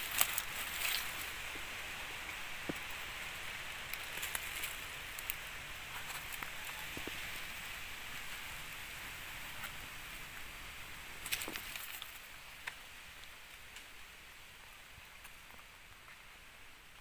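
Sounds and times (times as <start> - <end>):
dry leaves crackling and rustling: 0.0 - 16.3
forest background hiss: 0.0 - 17.0.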